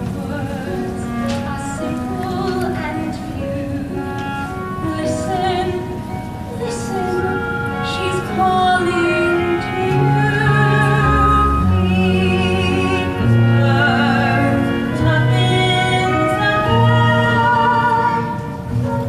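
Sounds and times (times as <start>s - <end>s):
orchestral accompaniment: 0.0s - 19.0s
person singing with vibrato: 0.0s - 19.0s.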